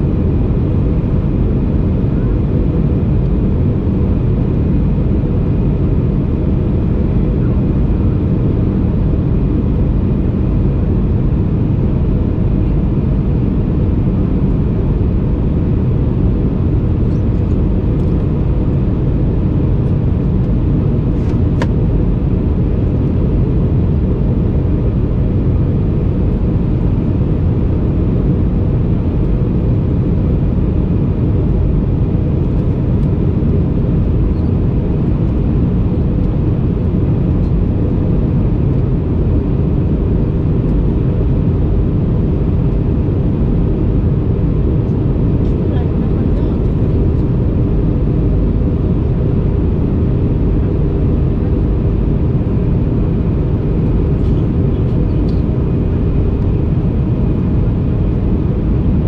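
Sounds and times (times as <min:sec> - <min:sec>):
airplane cabin airflow and engine noise: 0:00.0 - 0:59.0.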